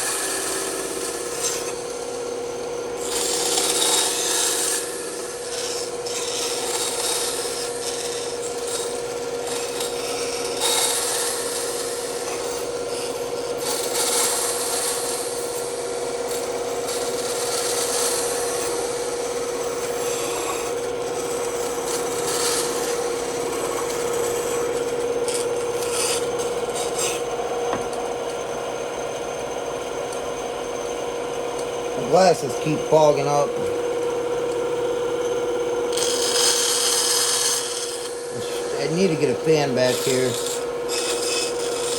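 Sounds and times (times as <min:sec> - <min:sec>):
saw blade cutting wood: 0:00.0 - 0:28.0, 0:32.0 - 0:33.7, 0:35.9 - 0:41.9
bandsaw humming: 0:00.0 - 0:41.9.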